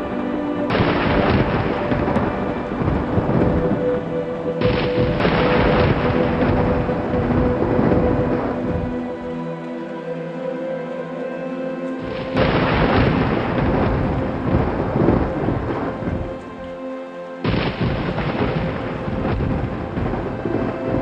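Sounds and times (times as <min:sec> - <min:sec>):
thunder rumbling: 0:00.0 - 0:09.5, 0:12.0 - 0:16.7, 0:17.4 - 0:21.0
rain: 0:00.0 - 0:21.0
soft musical drone: 0:00.0 - 0:21.0.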